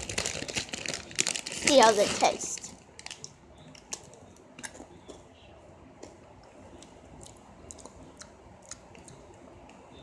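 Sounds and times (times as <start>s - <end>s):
chewing crunchy chips: 0.0s - 5.3s, 5.9s - 9.8s.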